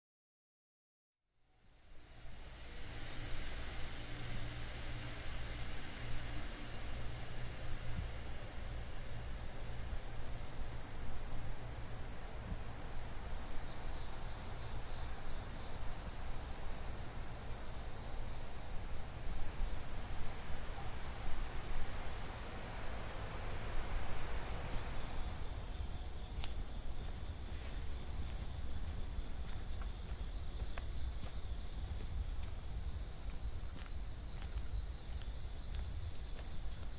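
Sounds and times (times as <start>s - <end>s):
crickets chirping: 1.4s - 36.9s.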